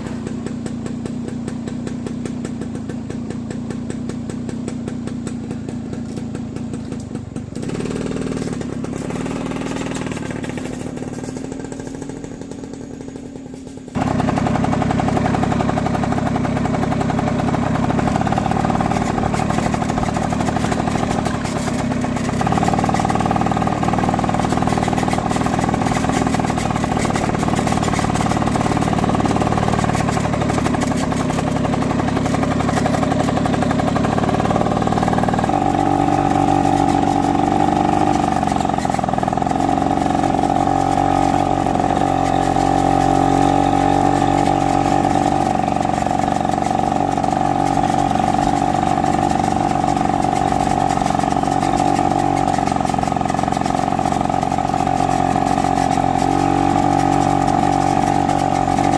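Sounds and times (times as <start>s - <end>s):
small engine running: 0.0s - 58.9s.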